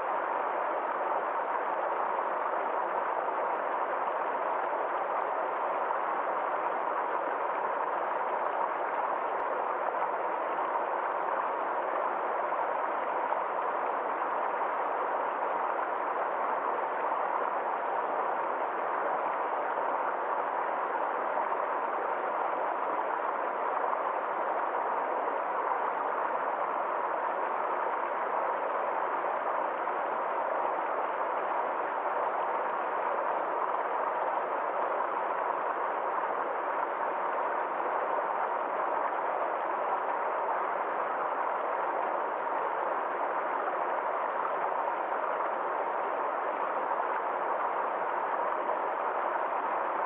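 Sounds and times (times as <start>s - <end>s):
forest stream flowing: 0.0s - 50.0s.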